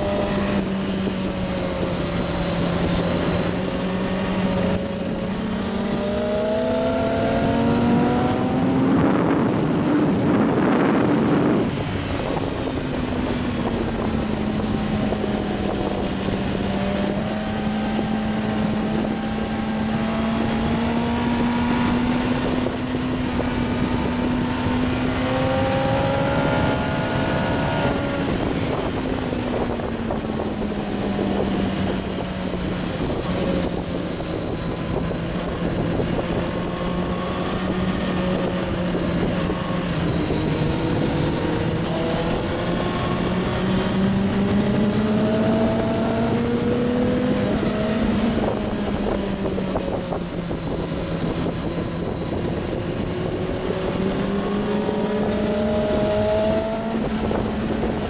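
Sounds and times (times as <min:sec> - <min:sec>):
distant engines: 0:00.0 - 0:58.0
motorcycle engine under throttle: 0:00.0 - 0:58.0
wind rush on microphone: 0:00.0 - 0:58.0.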